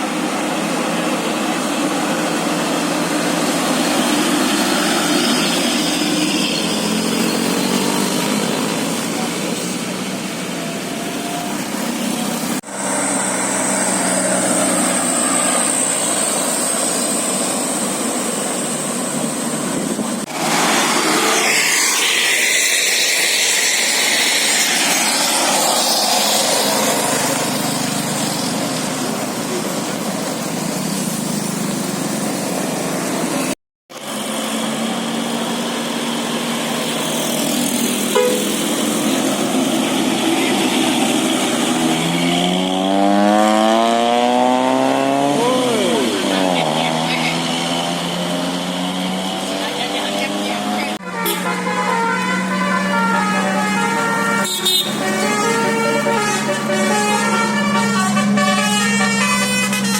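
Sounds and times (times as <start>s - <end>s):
bus engine and traffic noise: 0.0s - 59.9s.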